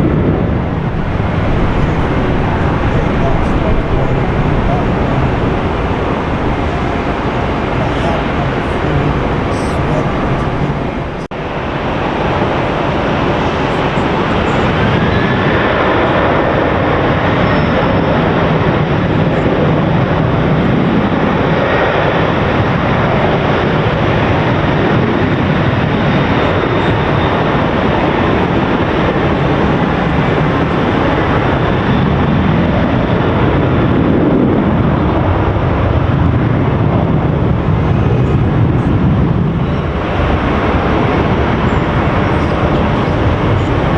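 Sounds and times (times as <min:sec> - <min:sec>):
jet airliner engine noise: 0:00.0 - 0:43.9.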